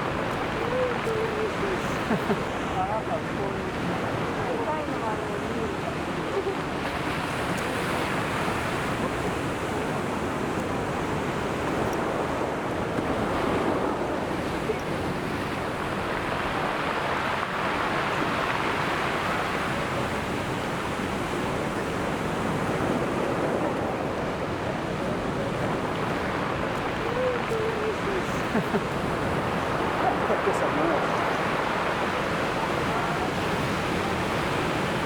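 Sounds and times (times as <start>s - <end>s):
waves breaking on shore: 0.0s - 35.0s.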